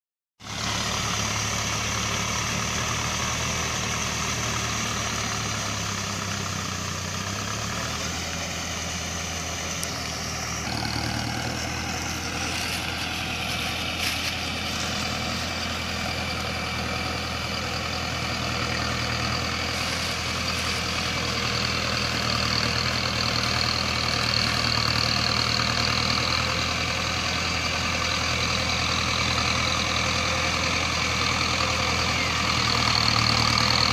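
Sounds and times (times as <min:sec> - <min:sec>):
tractor diesel engine under load: 0:00.4 - 0:33.9.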